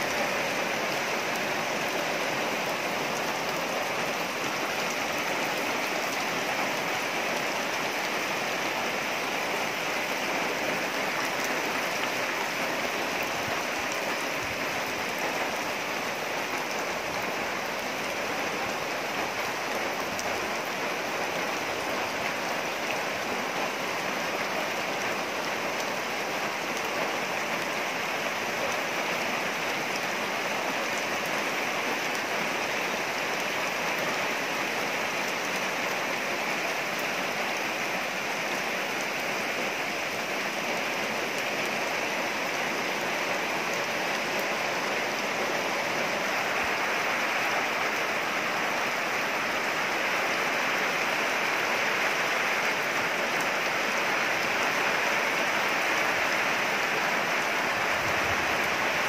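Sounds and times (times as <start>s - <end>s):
rain falling on trees and grass: 0.0s - 59.0s.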